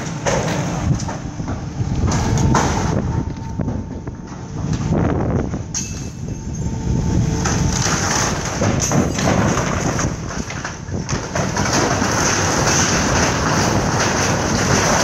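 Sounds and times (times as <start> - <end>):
wood and sheet metal crunching: 0.0 - 6.1, 7.1 - 15.0.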